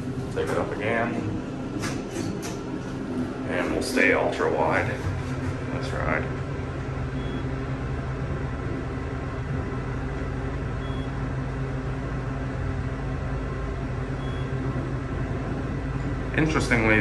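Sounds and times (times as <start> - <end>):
elevator hum and rumble: 0.0 - 17.0.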